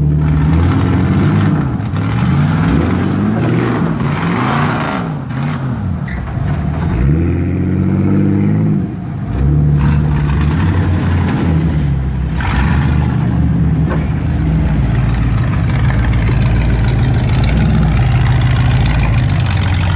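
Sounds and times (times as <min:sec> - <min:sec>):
truck engine revving: 0:00.0 - 0:19.9.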